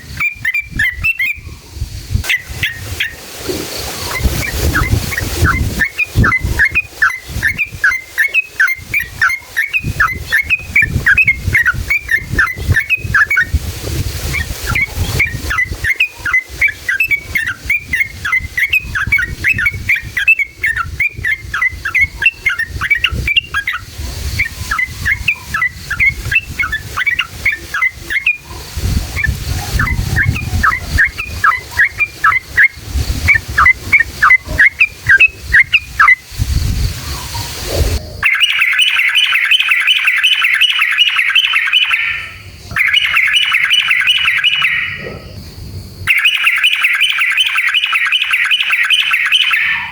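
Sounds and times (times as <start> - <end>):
bird chattering song: 0.0 - 1.6, 2.2 - 3.2, 3.8 - 13.6, 14.2 - 45.4, 46.0 - 49.9.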